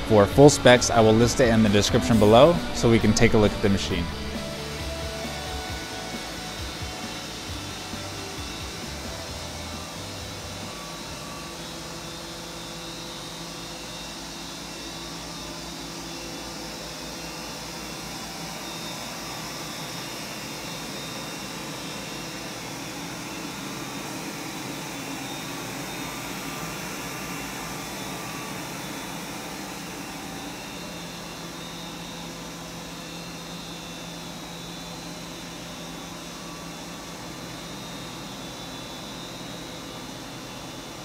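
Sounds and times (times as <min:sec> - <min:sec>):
machine mechanical hum with tones: 0:00.0 - 0:41.0.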